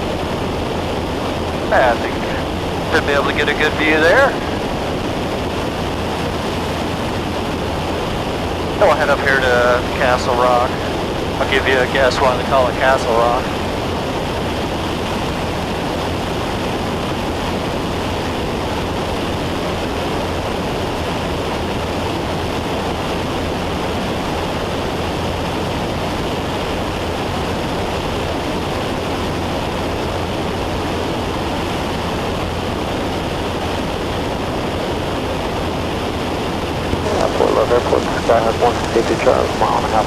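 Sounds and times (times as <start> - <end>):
light aircraft engine drone: 0.0 - 40.0.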